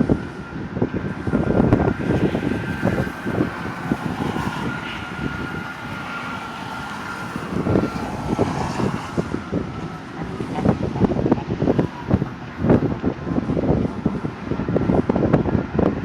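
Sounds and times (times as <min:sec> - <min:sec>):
truck running: 0:00.0 - 0:16.0
wind buffeting microphone: 0:00.0 - 0:16.0.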